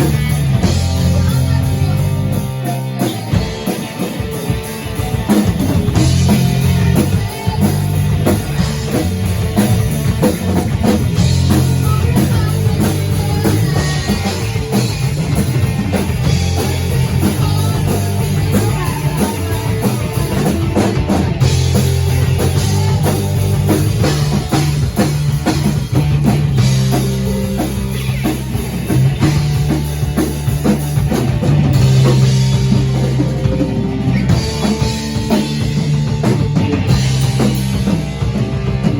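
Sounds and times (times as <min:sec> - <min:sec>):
driving drum kit: 0:00.0 - 0:38.9
rock band playing: 0:00.0 - 0:38.9.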